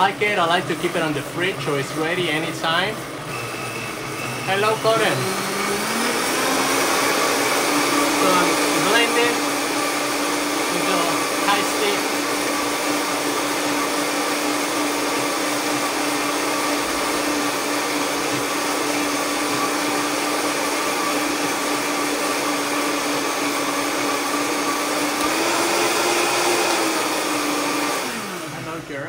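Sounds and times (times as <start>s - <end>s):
blender motor whining: 0.0s - 29.0s.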